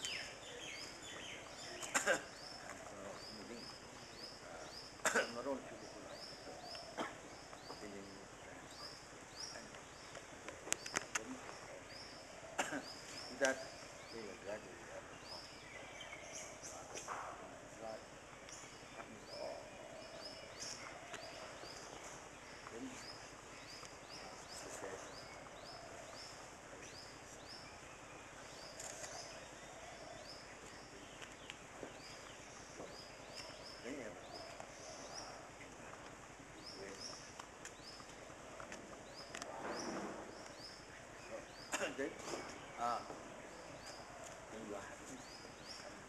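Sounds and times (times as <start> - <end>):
bird chirping: 0.0 - 46.0.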